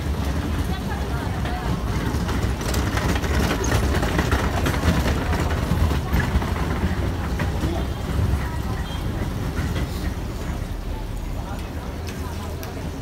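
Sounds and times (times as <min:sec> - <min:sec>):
low street rumble: 0:00.0 - 0:13.0
people talking: 0:00.2 - 0:13.0.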